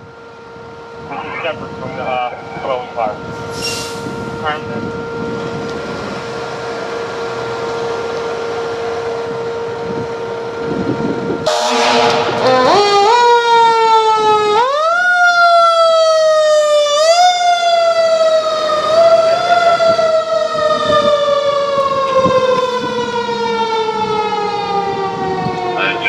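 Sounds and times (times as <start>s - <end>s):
fire engine siren: 0.0s - 26.0s.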